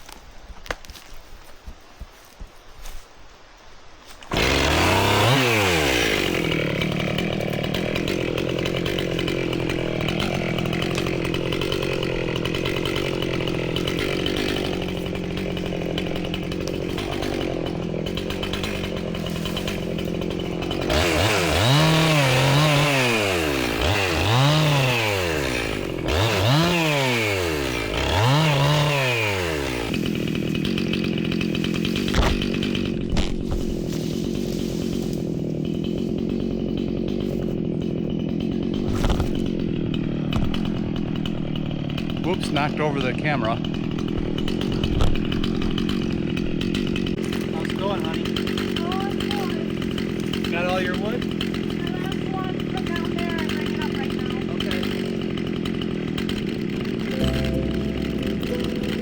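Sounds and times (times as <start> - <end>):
chainsaw revving: 4.3 - 59.0.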